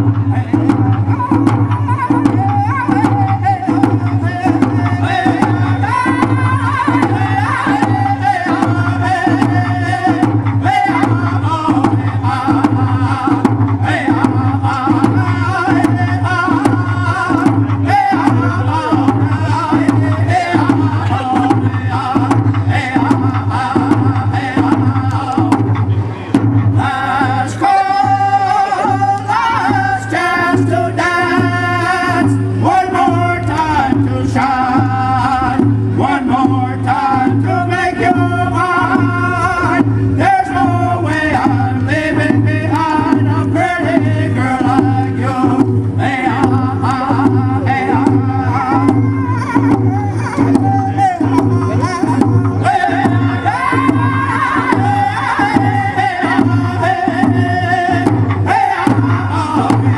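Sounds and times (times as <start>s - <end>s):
frame drums beating: 0.0s - 59.9s
men singing together: 0.0s - 59.9s.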